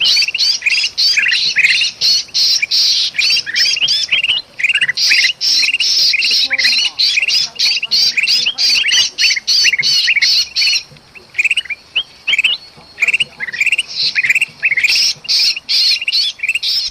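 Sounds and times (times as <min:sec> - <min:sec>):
bulbuls alarm calling: 0:00.0 - 0:16.9
trapped bird distress calls: 0:00.0 - 0:16.9.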